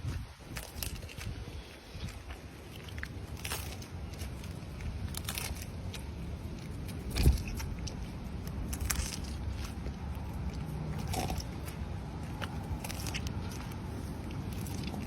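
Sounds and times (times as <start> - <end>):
animal crunching and chewing food: 0.0 - 15.0.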